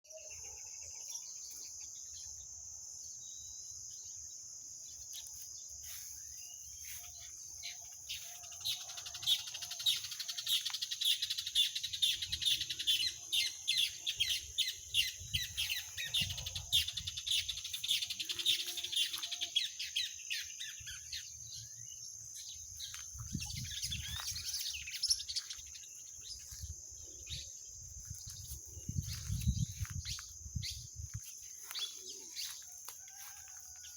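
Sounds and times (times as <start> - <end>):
birds singing: 6.1 - 33.8.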